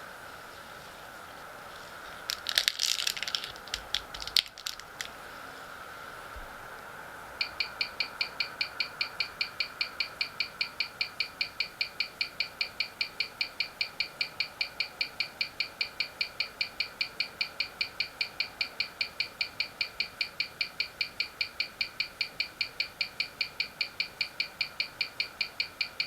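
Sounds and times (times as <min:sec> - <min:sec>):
mechanical watch ticking: 0:02.3 - 0:05.1, 0:07.4 - 0:26.0.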